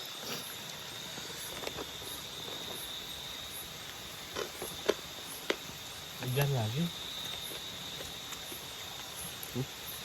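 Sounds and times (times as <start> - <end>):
crickets trilling: 0.0 - 10.0
falling water hiss: 0.0 - 10.0
insects pulsing chirp: 0.0 - 10.0.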